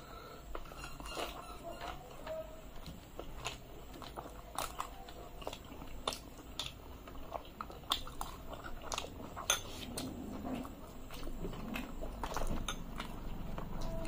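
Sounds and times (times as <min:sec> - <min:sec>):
chewing and wet smacks: 0:00.5 - 0:14.0.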